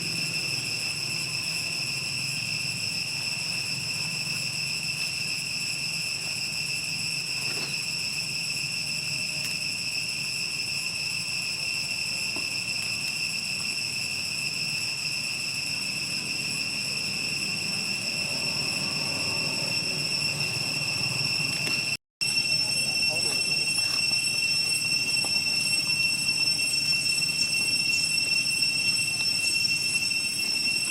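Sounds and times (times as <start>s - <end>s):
high-pitched insect drone: 0.0s - 30.9s.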